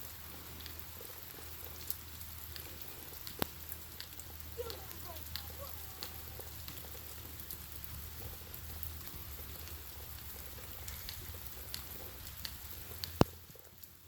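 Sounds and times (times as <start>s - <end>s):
steady hiss with light ticks: 0.0s - 14.0s.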